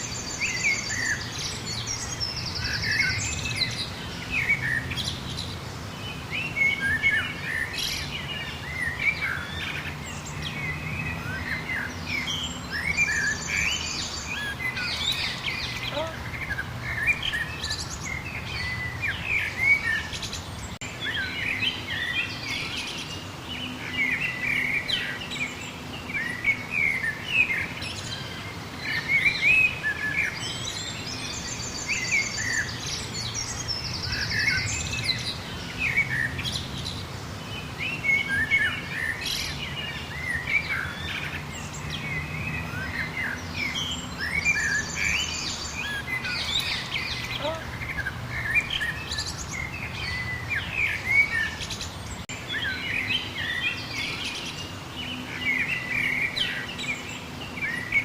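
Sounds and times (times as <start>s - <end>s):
songbirds chirping chorus: 0.0s - 58.0s.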